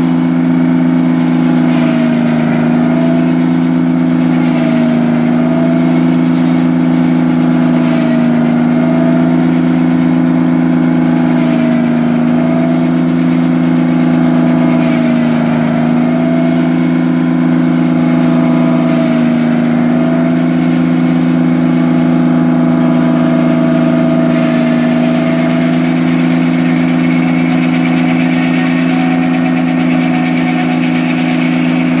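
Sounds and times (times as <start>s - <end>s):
sawmill saw cutting log: 0.0s - 32.0s.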